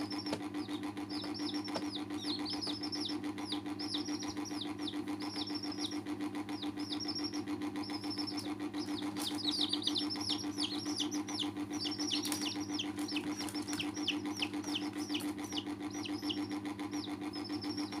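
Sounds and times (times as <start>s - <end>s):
baby chicks peeping: 0.0s - 18.0s
low mechanical hum: 0.0s - 18.0s.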